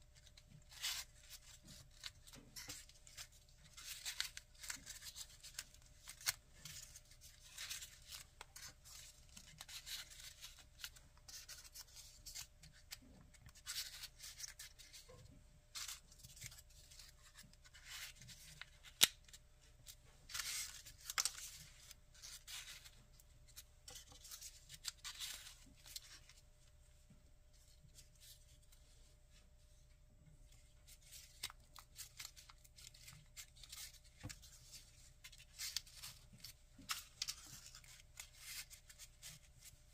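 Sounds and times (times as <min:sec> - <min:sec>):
paper rustling and crinkling: 0:00.2 - 0:26.5, 0:30.5 - 0:39.9.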